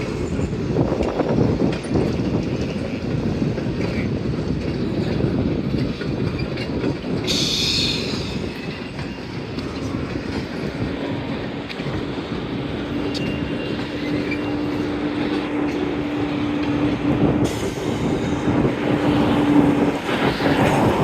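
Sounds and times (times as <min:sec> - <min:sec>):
freight train rumbling on track: 0:00.0 - 0:21.0
train wheels clicking: 0:00.0 - 0:21.0.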